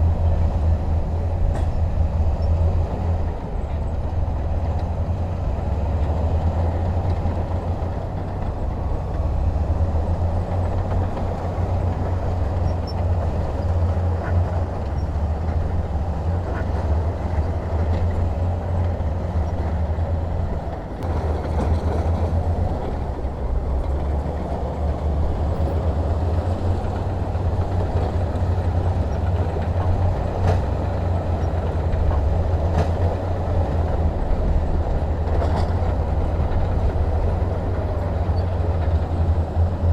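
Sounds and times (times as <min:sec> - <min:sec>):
diesel machinery rumbling: 0:00.0 - 0:39.9.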